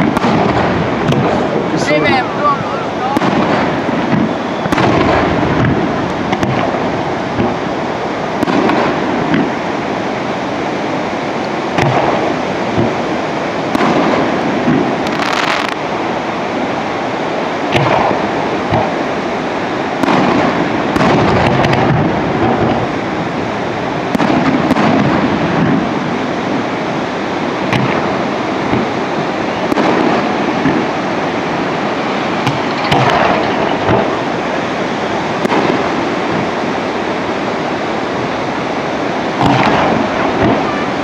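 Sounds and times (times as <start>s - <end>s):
fireworks bursting and crackling: 0.0s - 41.0s
steady noisy background: 0.0s - 41.0s.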